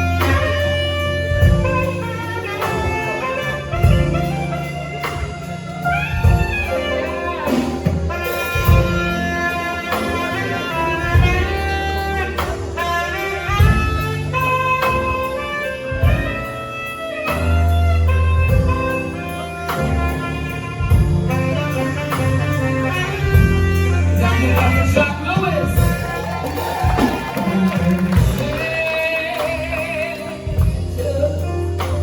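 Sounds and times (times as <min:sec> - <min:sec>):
bass: 0:00.0 - 0:32.0
drum kit: 0:00.0 - 0:32.0
saxophone-like horn melody: 0:00.0 - 0:32.0.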